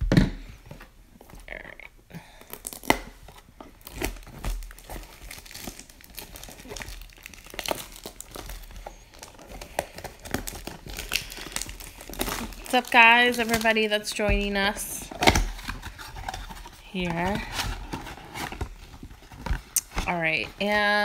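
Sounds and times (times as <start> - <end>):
plastic wrap crinkling and tearing: 2.3 - 21.0.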